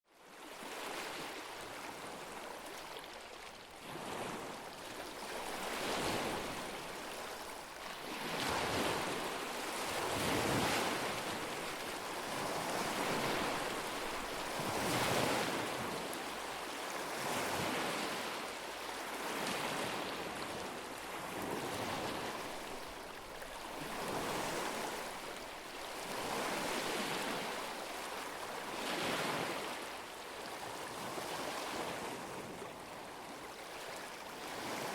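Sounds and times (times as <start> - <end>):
lake waves lapping on shore: 0.2 - 34.9.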